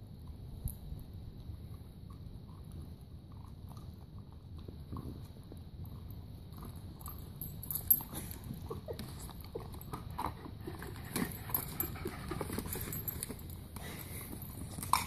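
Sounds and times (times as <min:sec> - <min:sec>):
dog crunching corn kernels: 0:00.1 - 0:15.0.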